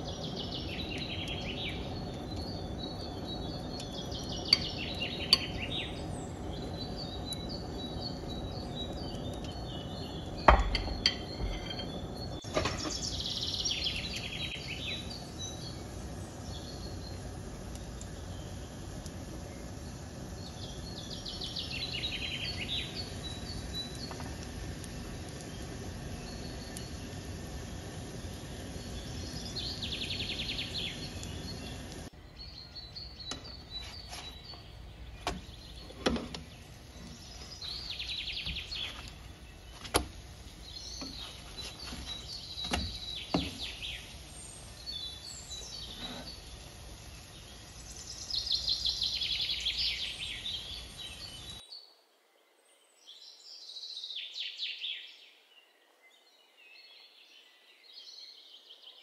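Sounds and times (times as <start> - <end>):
bread sizzling in oil: 0.0 - 51.6
birds chirping in trills: 0.0 - 52.0.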